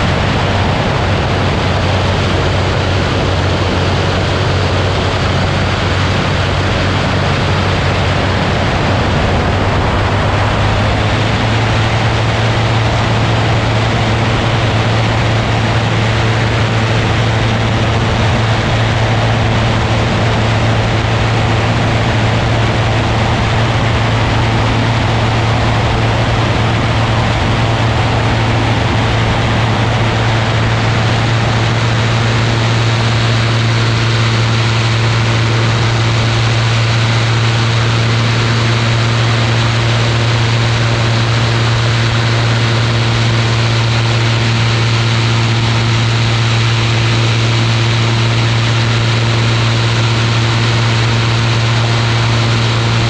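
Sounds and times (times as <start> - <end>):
aircraft engine and propeller hum: 0.0 - 53.0
wind noise: 0.0 - 53.0.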